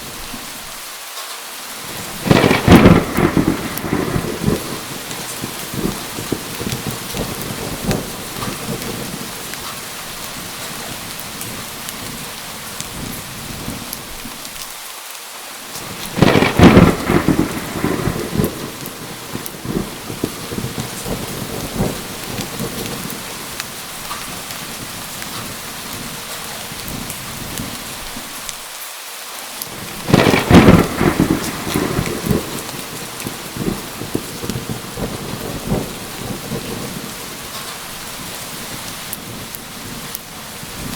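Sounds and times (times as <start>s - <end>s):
steady rain: 0.0s - 40.9s
thunder crack and rumble: 1.8s - 14.3s, 15.8s - 28.3s, 29.7s - 40.9s.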